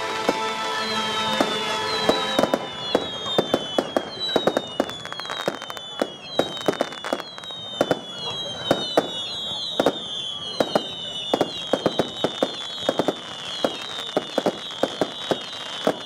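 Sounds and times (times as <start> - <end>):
firework bangs: 0.0 - 16.0
whistling fireworks: 0.0 - 16.0.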